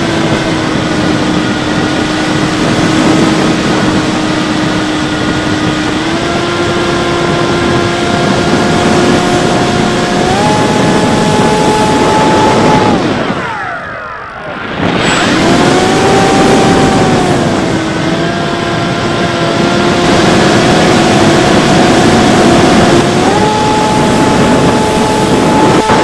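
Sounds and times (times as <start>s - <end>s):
electric motor and propeller whining: 0.0s - 26.0s
wind rush: 0.0s - 26.0s.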